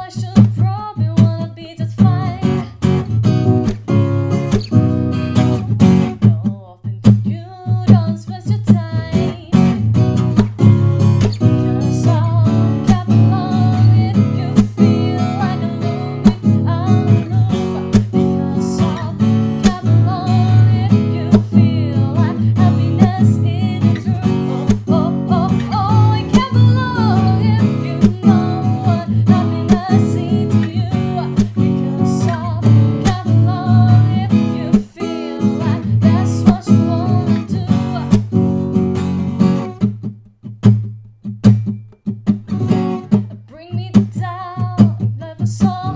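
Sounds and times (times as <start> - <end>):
acoustic guitar strumming: 2.0 - 7.3, 7.9 - 45.9.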